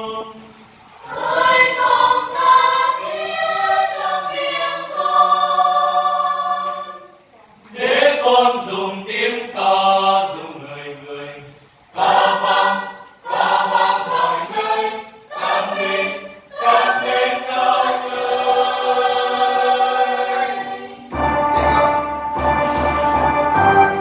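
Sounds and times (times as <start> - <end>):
choir singing a hymn: 0.0 - 24.0.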